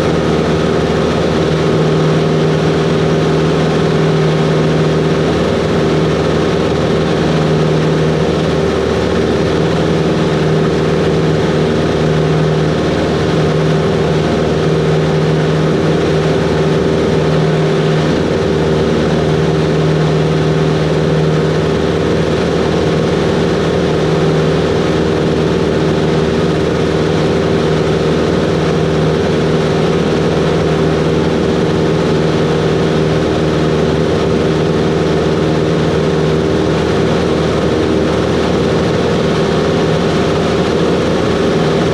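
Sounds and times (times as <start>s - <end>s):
light aircraft engine drone: 0.0s - 41.9s.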